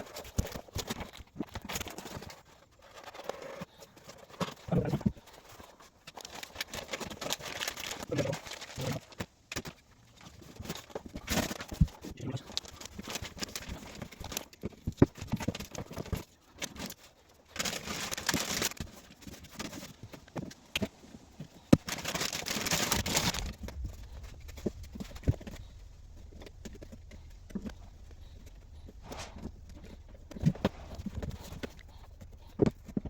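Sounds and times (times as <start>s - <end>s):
material rustling: 0.0s - 33.0s.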